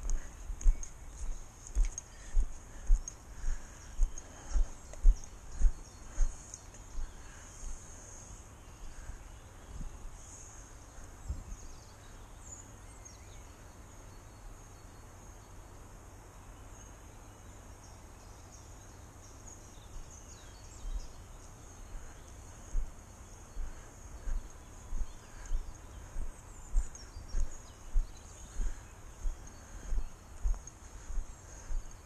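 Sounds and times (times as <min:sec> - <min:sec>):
birds chirping: 0:00.0 - 0:32.0
steady high hiss: 0:00.0 - 0:32.0.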